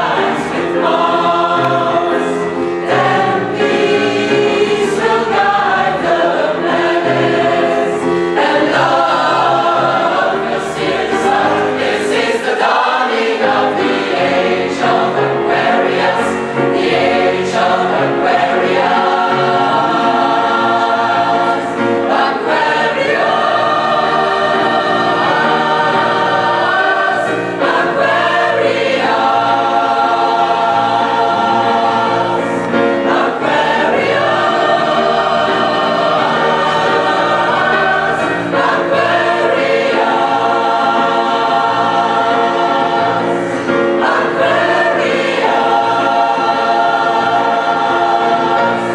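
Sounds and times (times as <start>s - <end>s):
grand piano: 0.0s - 48.9s
mixed choir singing: 0.0s - 48.9s.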